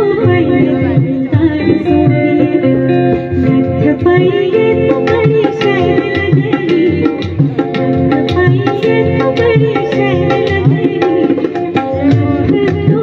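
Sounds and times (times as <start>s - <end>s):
hand drum strokes: 0.0s - 13.0s
woman singing: 0.0s - 13.0s.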